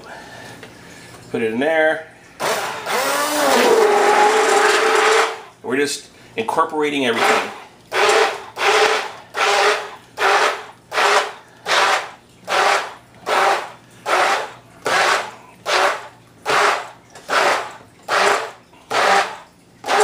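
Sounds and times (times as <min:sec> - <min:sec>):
stick blender churning: 0:02.4 - 0:05.6, 0:07.0 - 0:20.0.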